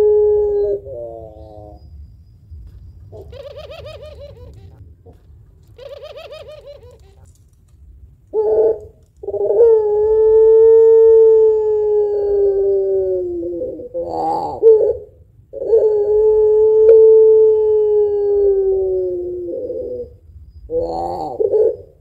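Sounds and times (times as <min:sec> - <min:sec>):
dove cooing: 0:00.0 - 0:01.9, 0:02.7 - 0:07.6, 0:08.3 - 0:22.0.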